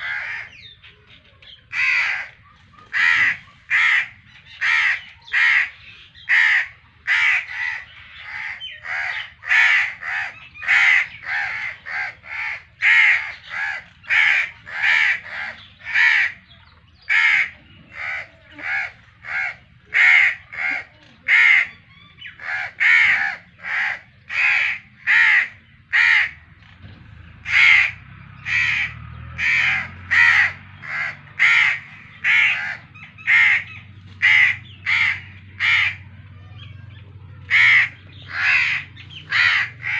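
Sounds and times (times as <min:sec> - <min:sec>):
crows cawing: 0:00.0 - 0:00.8, 0:01.7 - 0:26.6, 0:27.4 - 0:39.9.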